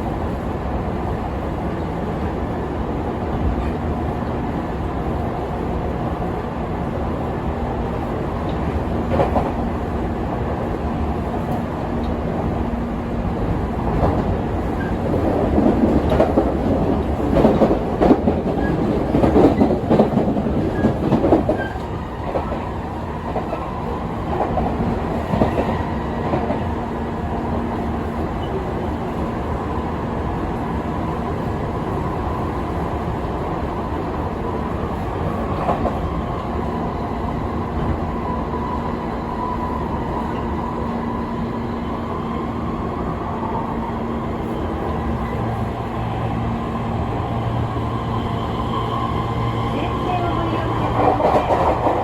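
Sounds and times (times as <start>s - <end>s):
electric train humming: 0.0s - 52.0s.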